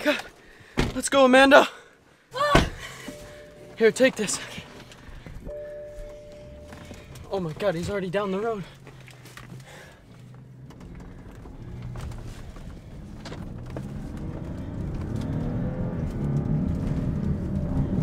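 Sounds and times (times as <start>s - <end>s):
car engine accelerating: 3.1s - 18.0s.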